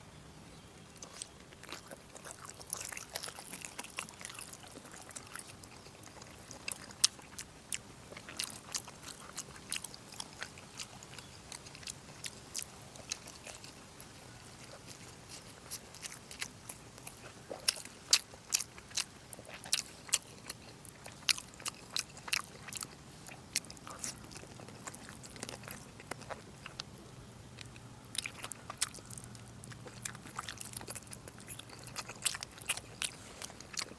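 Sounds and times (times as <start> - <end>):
person chewing and smacking: 0.8 - 33.9.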